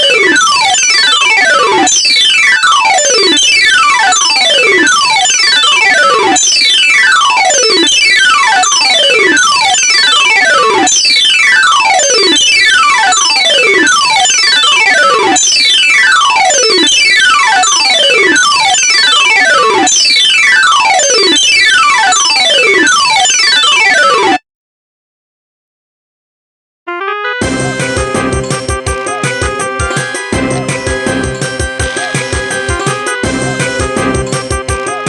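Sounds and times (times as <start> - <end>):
pitch-shifted ringtone melody: 0.0 - 24.4, 26.9 - 35.0.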